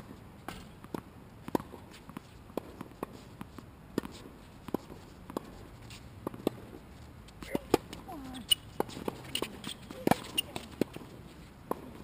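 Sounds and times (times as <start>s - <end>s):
tennis ball bouncing on hard court: 0.5s - 5.6s, 6.2s - 6.7s, 7.4s - 12.0s.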